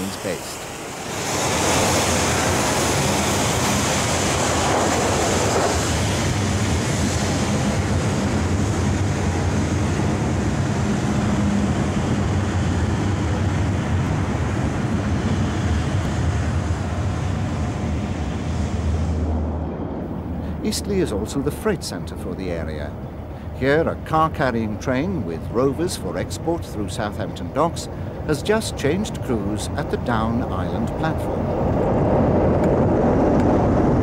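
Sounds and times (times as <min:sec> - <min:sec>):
steam locomotive rumble: 0:00.0 - 0:34.0.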